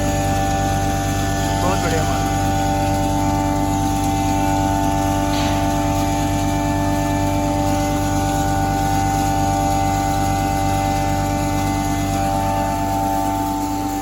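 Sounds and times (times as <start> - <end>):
grinder machine humming: 0.0 - 14.0.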